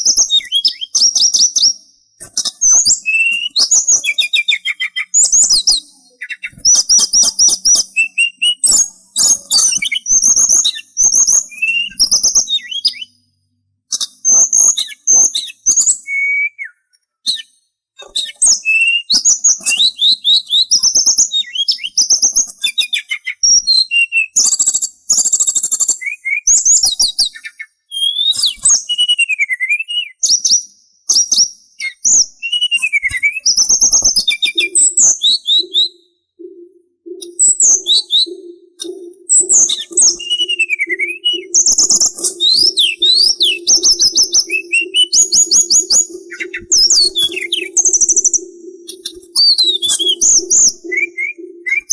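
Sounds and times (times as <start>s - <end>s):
songbird singing chirps and trills: 0.0s - 51.9s.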